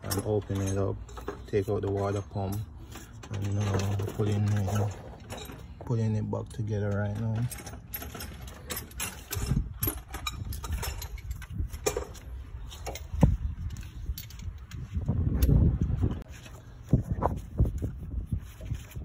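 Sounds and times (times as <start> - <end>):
metal clinks of engine parts: 0.0 - 15.6.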